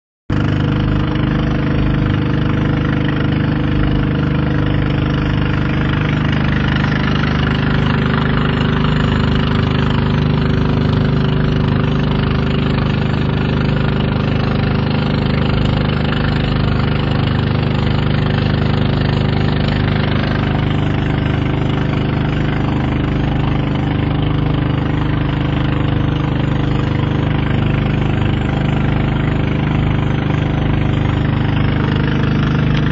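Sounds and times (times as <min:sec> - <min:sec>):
boat engine droning: 0:00.3 - 0:32.9
rush of wind and water: 0:00.4 - 0:32.9.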